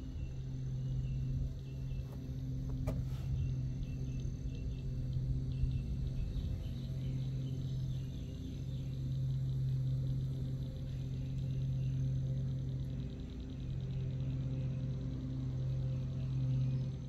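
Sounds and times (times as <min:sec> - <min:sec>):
boat motor humming: 0:00.0 - 0:17.0
faint insect chirping: 0:00.0 - 0:17.0.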